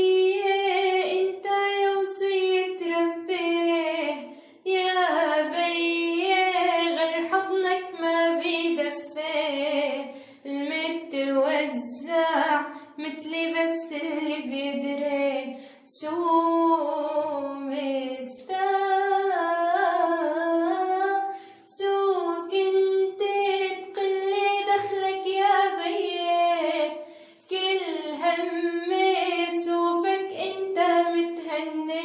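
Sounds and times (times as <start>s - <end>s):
young woman singing: 0.0s - 32.0s.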